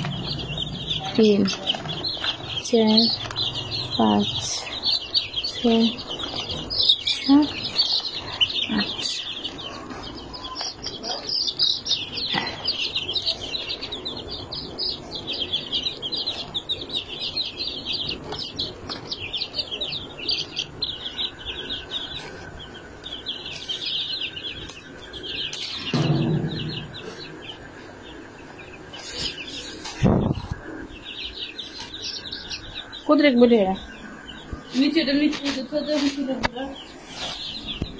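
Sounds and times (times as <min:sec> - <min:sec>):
baby chicks peeping: 0:00.0 - 0:37.9.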